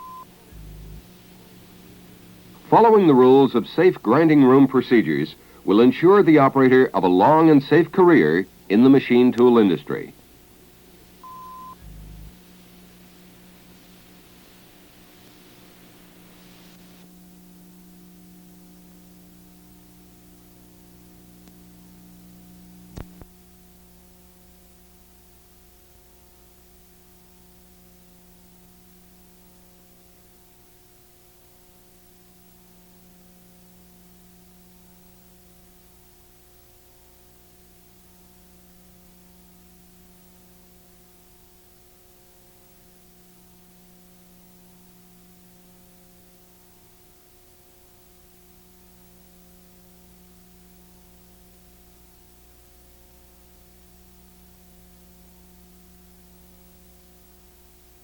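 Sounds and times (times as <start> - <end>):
constant hiss: 0.0 - 58.0
low electrical hum: 0.0 - 58.0.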